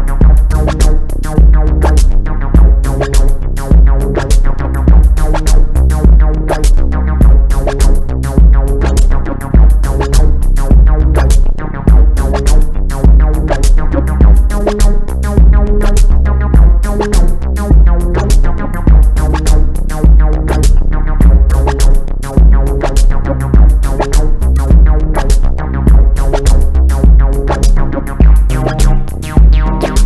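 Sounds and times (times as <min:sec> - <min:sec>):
drum machine kicks: 0:00.0 - 0:30.0
hi-hat ticks: 0:00.0 - 0:30.0
repeating synthesizer notes: 0:00.0 - 0:30.0.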